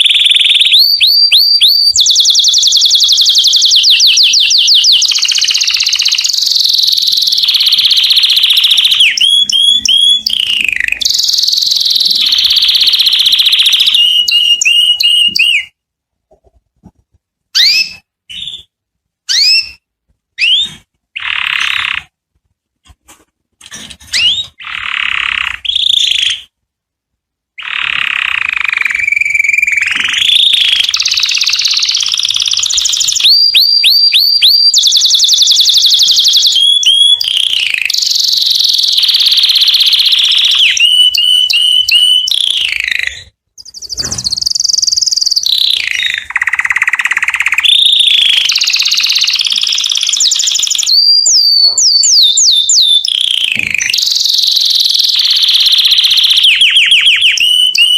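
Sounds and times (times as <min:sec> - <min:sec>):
canary singing: 0:00.0 - 0:15.8, 0:16.4 - 0:22.2, 0:23.0 - 0:26.6, 0:27.6 - 0:57.9.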